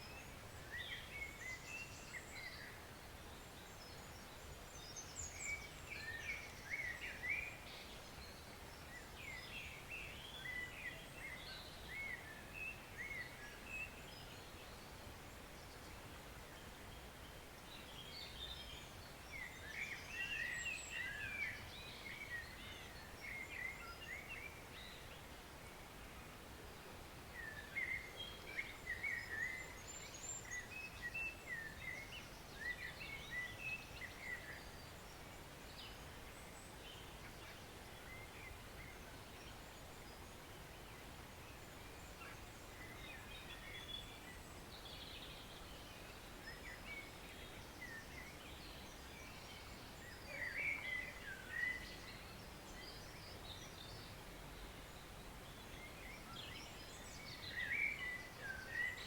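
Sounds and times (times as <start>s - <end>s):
small birds chirping: 0.0s - 26.3s, 27.3s - 59.0s.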